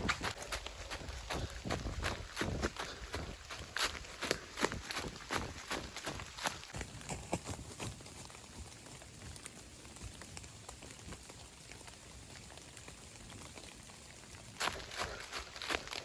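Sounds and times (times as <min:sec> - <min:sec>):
rain patter: 0:00.0 - 0:16.0
running footsteps on wet trail: 0:00.0 - 0:16.0.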